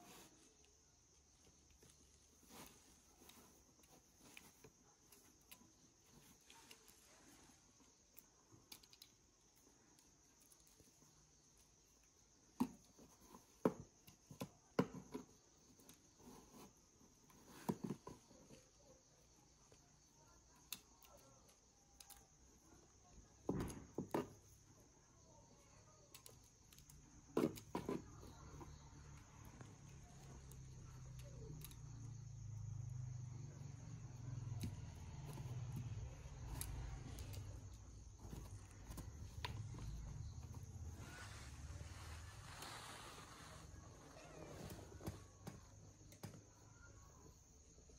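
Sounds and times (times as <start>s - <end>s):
faint high-pitched whine: 0.0s - 47.9s.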